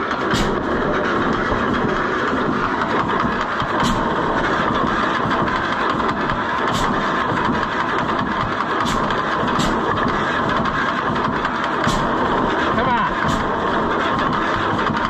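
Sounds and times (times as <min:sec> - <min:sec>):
tractor engine running: 0:00.0 - 0:15.0
sharp clicks or pops: 0:00.1 - 0:12.2.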